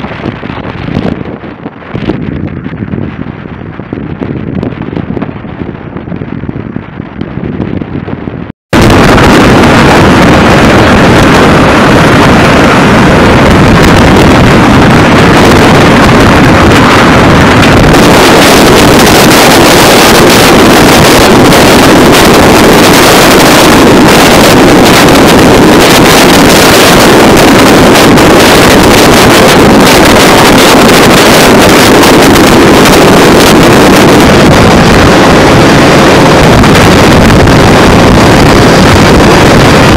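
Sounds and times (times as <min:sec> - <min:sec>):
loud flight deck roar: 0:00.0 - 0:39.9
wind on microphone: 0:00.0 - 0:39.9.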